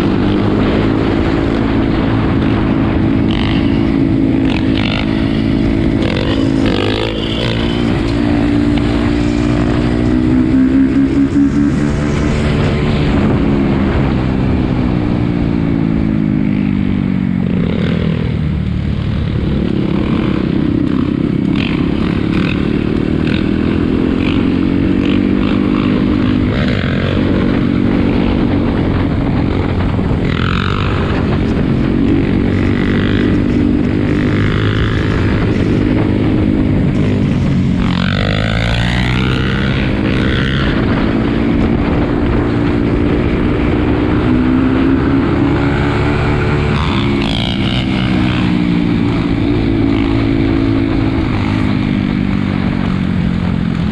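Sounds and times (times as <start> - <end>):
atv engines revving: 0.0 - 53.9.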